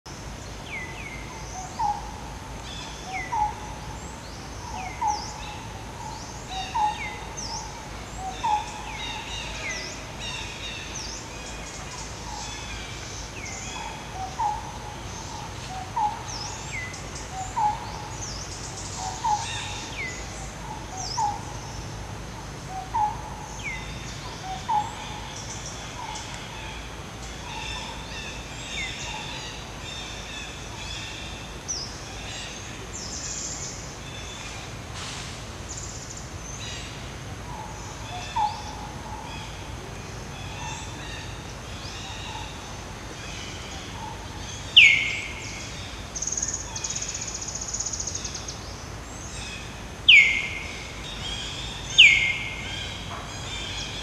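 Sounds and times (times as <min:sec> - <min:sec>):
low background noise: 0:00.1 - 0:54.0.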